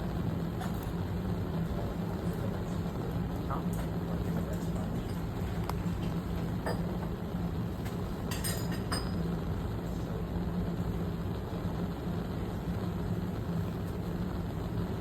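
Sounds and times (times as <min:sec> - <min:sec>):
low hum and rush: 0:00.0 - 0:15.0.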